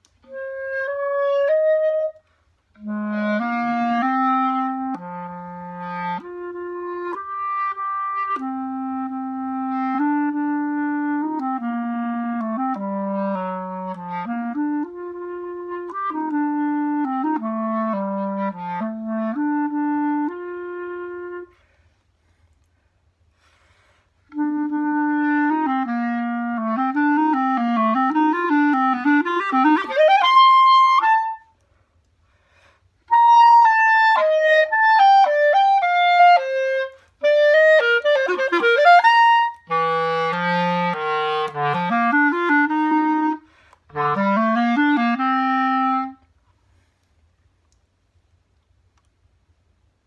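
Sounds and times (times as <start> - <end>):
solo clarinet playing: 0.0 - 21.7, 24.2 - 31.6, 32.5 - 46.4.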